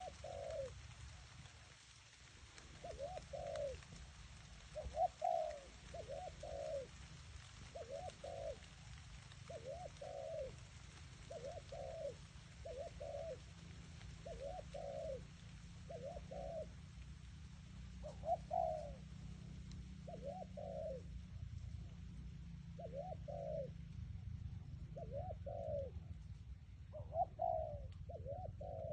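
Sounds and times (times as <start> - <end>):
doves cooing: 0.0 - 28.9.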